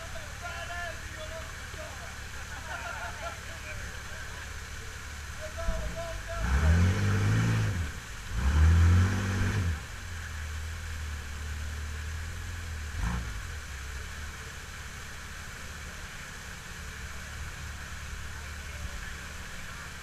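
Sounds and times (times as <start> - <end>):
creek water rushing: 0.0 - 20.0
off-road vehicle engine revving: 0.0 - 20.0.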